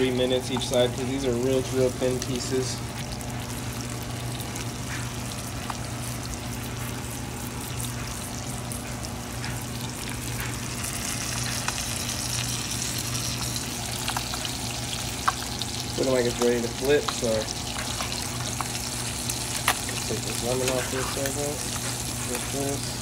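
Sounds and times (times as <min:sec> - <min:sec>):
fish sizzling in a skillet: 0:00.0 - 0:23.0.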